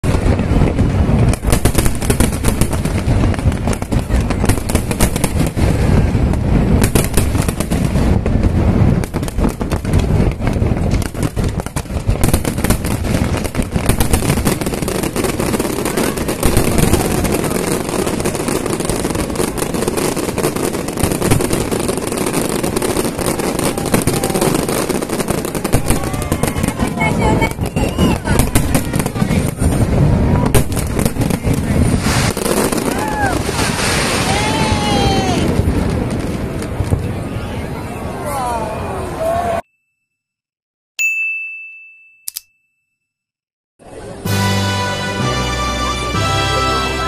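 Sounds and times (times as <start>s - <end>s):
fireworks bursting: 0.0s - 37.9s.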